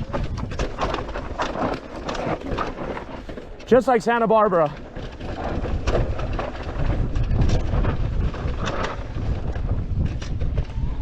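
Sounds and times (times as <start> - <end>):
bike rolling on dirt trail: 0.0 - 11.0
wind buffeting microphone: 0.0 - 11.0.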